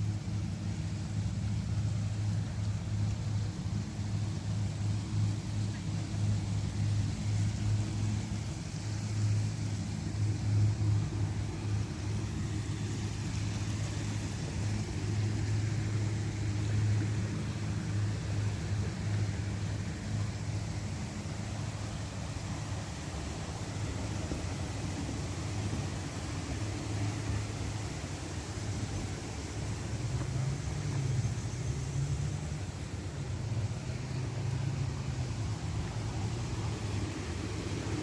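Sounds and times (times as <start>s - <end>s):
faint hiss: 0.0s - 38.0s
low rumble and hum: 0.0s - 38.0s.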